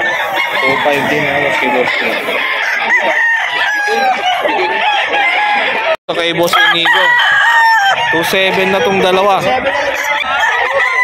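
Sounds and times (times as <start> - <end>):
roosters crowing and clucking: 0.0 - 11.0.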